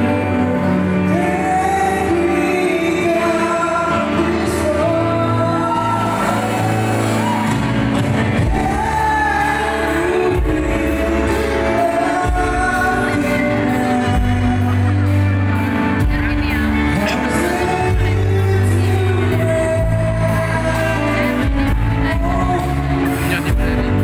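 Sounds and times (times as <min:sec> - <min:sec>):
live pop band playing: 0:00.0 - 0:24.0
man singing into microphone: 0:00.0 - 0:24.0.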